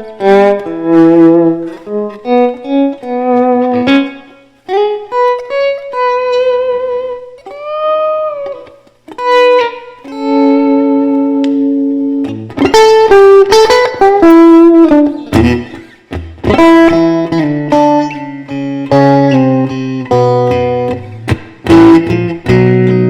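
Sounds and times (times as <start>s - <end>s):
electric guitar blues playing: 0.0s - 23.0s.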